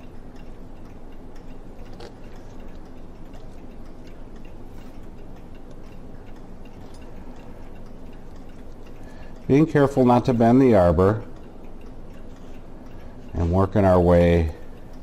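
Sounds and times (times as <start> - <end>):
mechanical clock ticking: 0.0 - 15.0.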